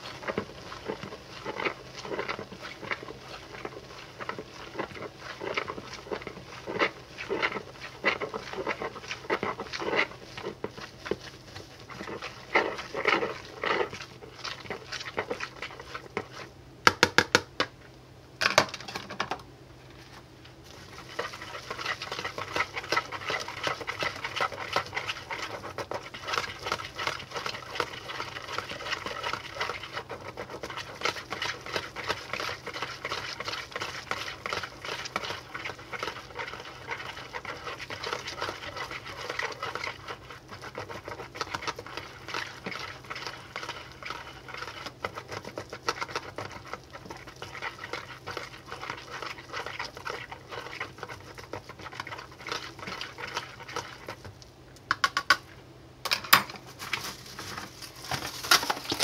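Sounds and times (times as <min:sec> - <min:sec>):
whisk ticking against plastic bowl: 0:00.0 - 0:17.7, 0:20.7 - 0:55.4.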